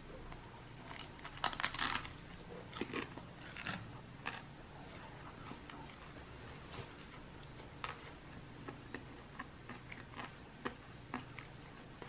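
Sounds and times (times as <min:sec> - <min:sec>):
crunching dumplings being chewed: 0:00.3 - 0:12.0.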